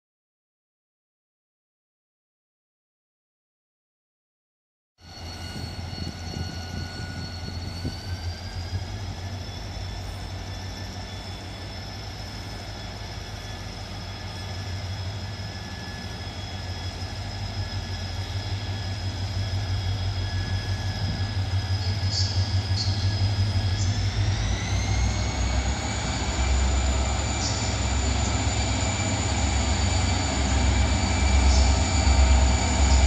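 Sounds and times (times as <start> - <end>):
thin whining tones: 5.0 - 33.0
train engine hum: 5.0 - 33.0.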